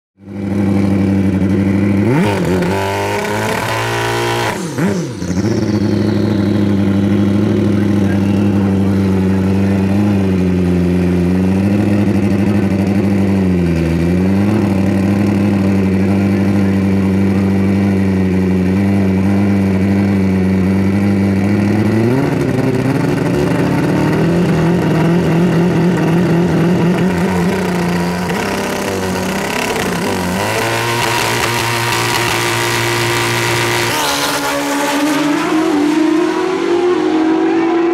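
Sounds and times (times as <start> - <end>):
motorcycle engines revving: 0.2 - 37.9.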